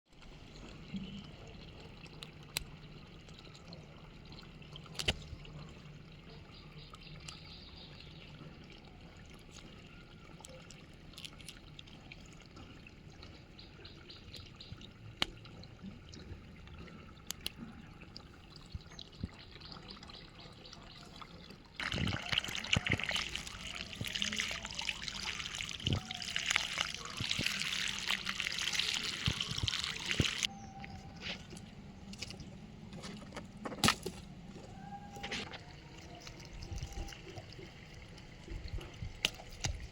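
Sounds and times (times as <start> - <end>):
water running and splashing: 0.1 - 39.9.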